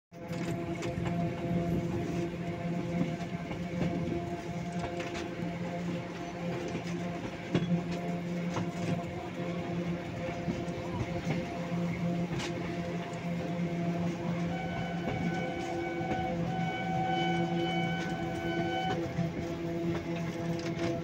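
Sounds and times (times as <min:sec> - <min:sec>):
wheels clicking on track: 0:00.1 - 0:21.0
train hum with held tones: 0:00.2 - 0:21.0.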